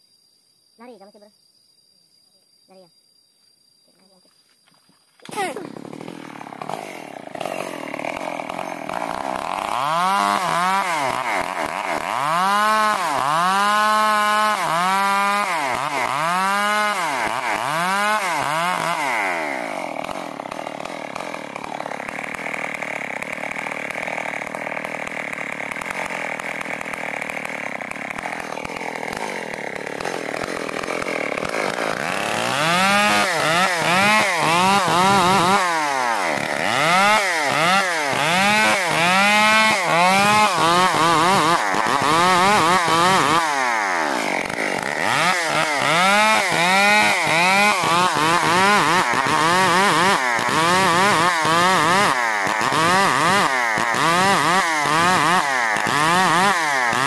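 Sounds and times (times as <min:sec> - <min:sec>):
chainsaw ripping a plank: 0:05.2 - 0:57.0.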